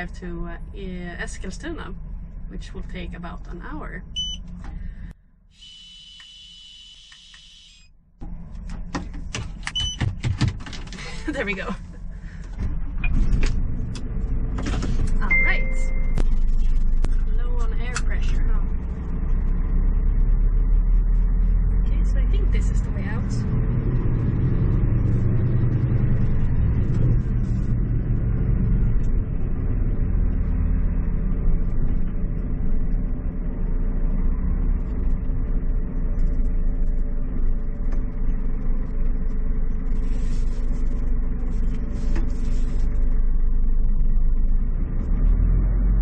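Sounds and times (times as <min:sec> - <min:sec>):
diesel truck engine rumbling: 0:00.0 - 0:05.8, 0:08.0 - 0:46.0.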